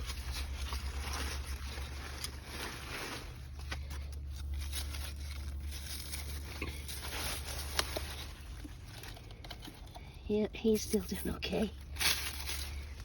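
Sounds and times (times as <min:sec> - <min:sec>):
garden plants rustling: 0:00.0 - 0:13.0
steady low rumble: 0:00.0 - 0:13.0.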